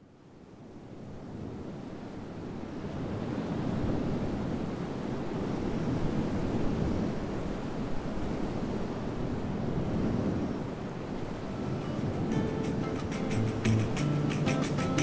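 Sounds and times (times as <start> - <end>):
wind: 0.0 - 15.0
ocean surf: 1.0 - 15.0.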